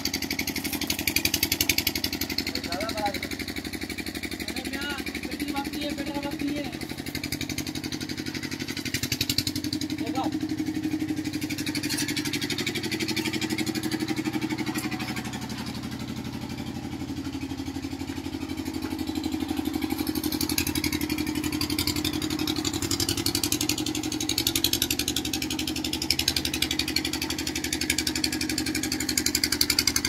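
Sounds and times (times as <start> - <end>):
small engine throbbing: 0.0 - 30.0.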